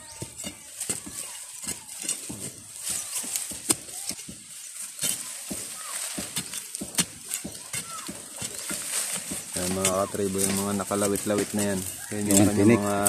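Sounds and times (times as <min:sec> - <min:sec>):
metal rod scraping gravelly soil: 0:00.0 - 0:13.0.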